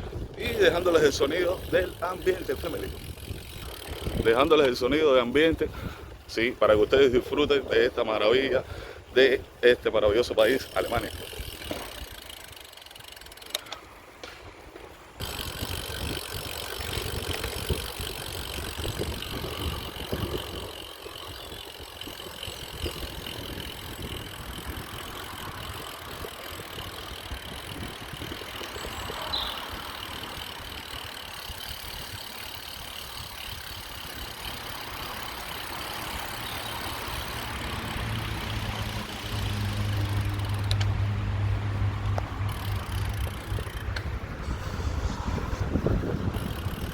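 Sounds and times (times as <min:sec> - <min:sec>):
bicycle rattles and clicks: 0:00.0 - 0:46.9
bicycle rolling rumble: 0:00.0 - 0:46.9
motor vehicle engine hum: 0:08.2 - 0:46.9.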